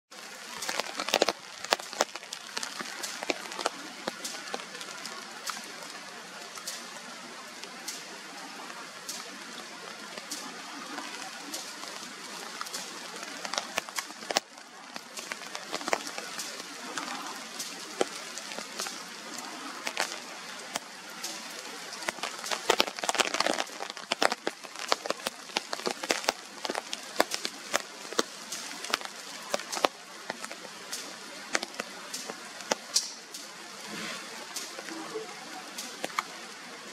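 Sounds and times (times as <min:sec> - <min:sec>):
rain hissing: 0:00.0 - 0:36.9
raindrops tapping surfaces: 0:00.1 - 0:36.9.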